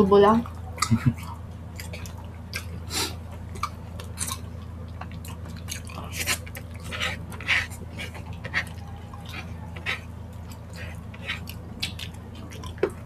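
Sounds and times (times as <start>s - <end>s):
steady low hum: 0.0s - 13.0s
wet chewing and mouth smacks: 0.4s - 13.0s.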